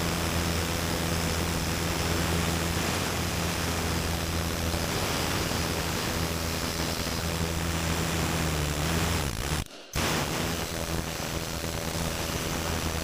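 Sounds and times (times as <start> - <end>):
handheld power tool running: 0.0 - 13.0.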